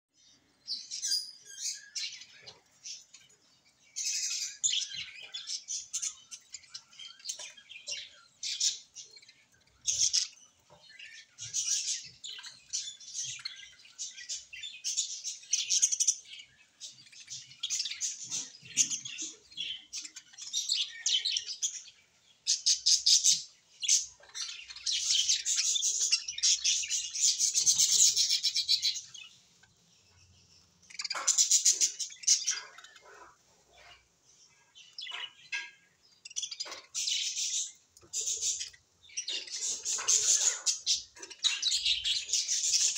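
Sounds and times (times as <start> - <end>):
budgerigars chirping: 0.2 - 42.9.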